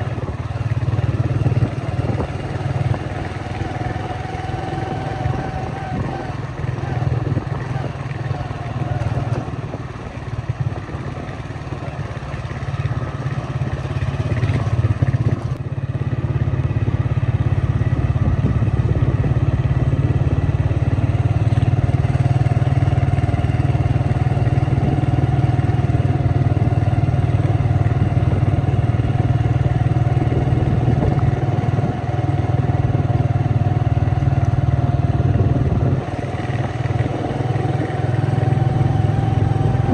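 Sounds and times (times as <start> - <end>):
vehicle engine and road hum: 0.0 - 39.9.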